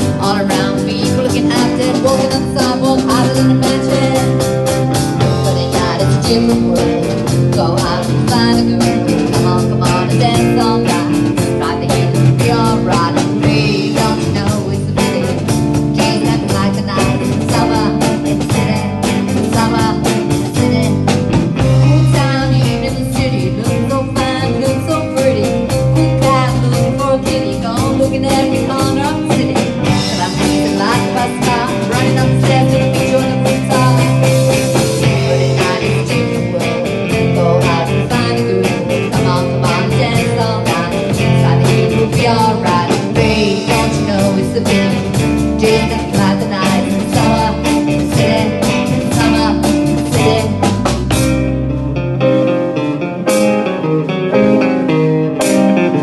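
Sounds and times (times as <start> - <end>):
steady drum beat: 0.0 - 51.8
live rock band playing: 0.0 - 56.0.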